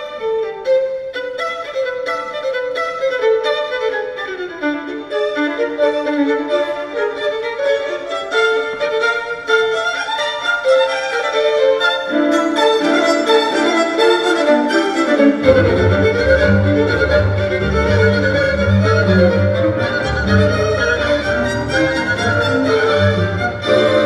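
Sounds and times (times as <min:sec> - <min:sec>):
string ensemble playing tango: 0:00.0 - 0:24.0
violin melody: 0:00.0 - 0:24.0.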